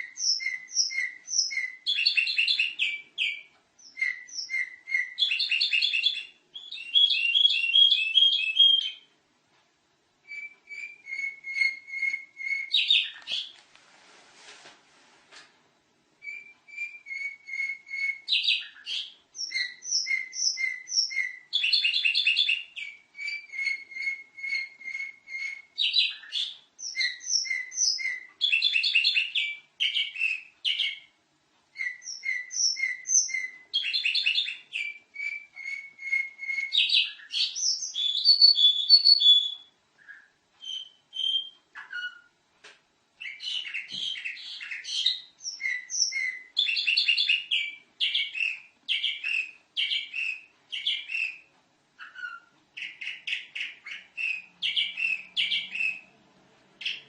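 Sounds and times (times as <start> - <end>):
canary singing: 0.0 - 9.2, 10.2 - 13.6, 16.2 - 57.0.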